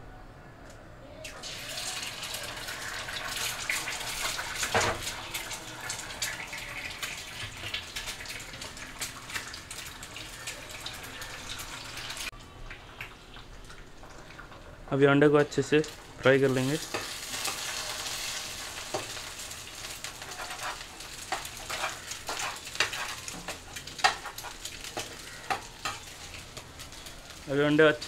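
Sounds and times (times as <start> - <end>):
eggs sizzling in hot oil: 1.2 - 28.0.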